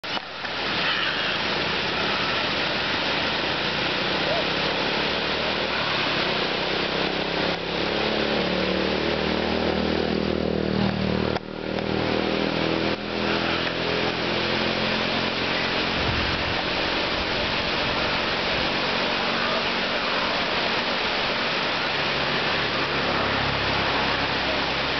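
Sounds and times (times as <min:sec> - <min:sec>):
engine droning: 0:00.0 - 0:24.9
water pouring over spillway: 0:00.0 - 0:24.9.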